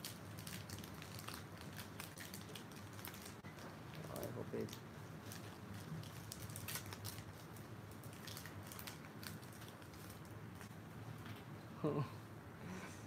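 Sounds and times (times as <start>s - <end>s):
foil wrapper crinkling: 0.0s - 10.7s.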